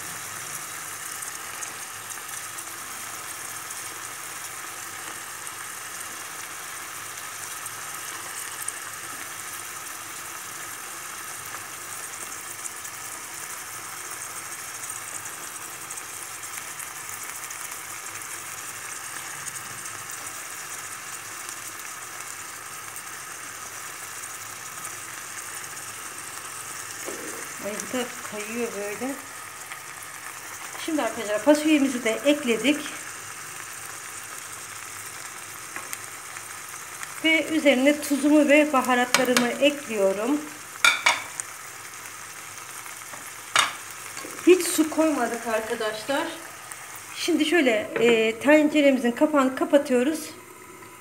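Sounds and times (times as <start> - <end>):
vegetables sizzling in oil: 0.0 - 51.0.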